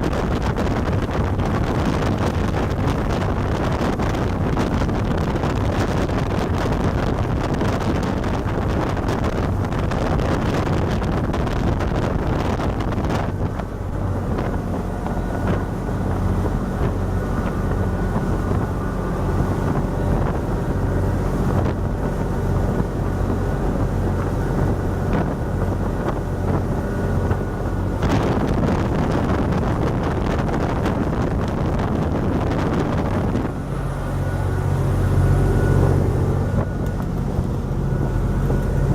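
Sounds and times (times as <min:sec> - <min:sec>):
motorboat engine running: 0:00.0 - 0:38.9
wind on microphone: 0:00.0 - 0:38.9.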